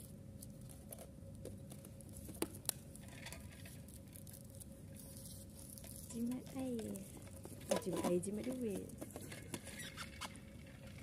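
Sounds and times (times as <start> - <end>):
thin steady hum: 0.0 - 11.0.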